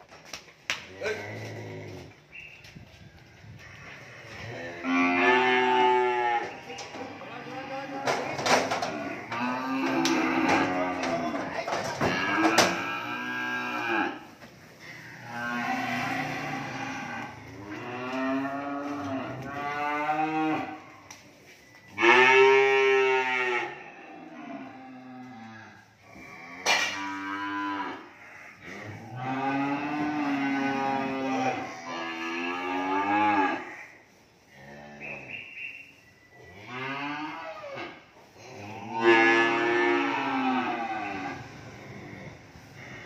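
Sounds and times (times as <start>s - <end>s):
cattle mooing: 4.2s - 20.9s, 22.0s - 33.9s, 36.6s - 43.0s.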